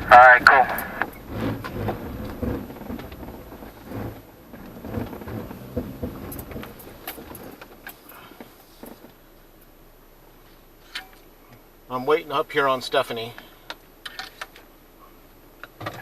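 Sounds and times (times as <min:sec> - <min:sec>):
suspension thumps and rumbles: 0:00.0 - 0:16.0.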